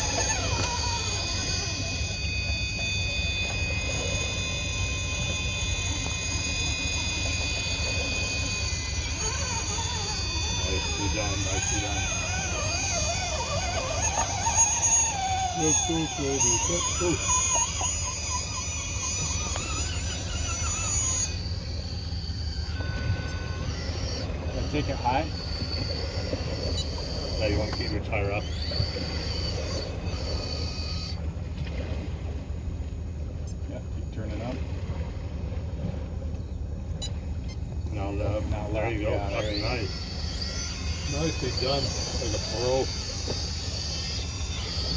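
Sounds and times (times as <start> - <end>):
electric motor and gears whining: 0.0 - 31.4, 36.9 - 44.9
wind rumble on microphone: 0.0 - 44.9.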